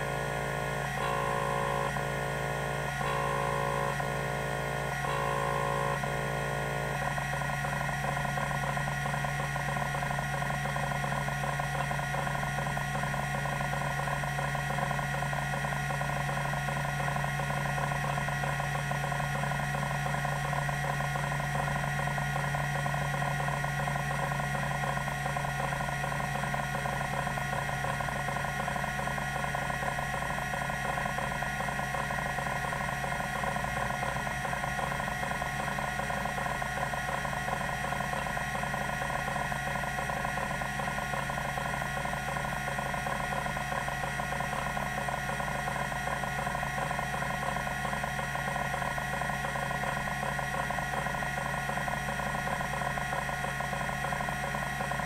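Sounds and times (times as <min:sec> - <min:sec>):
drive hum and whine: 0:00.0 - 0:55.0
hard drive seeking chatter: 0:00.0 - 0:55.0.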